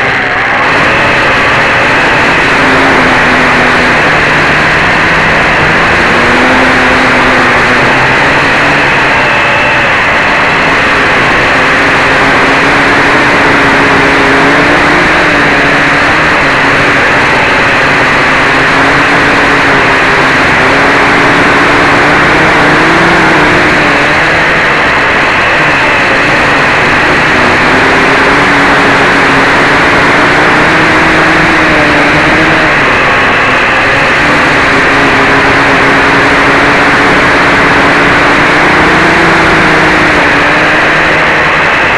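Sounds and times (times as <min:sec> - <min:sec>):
drone motors whirring: 0:00.0 - 0:41.9
propeller wash rushing: 0:00.0 - 0:41.9.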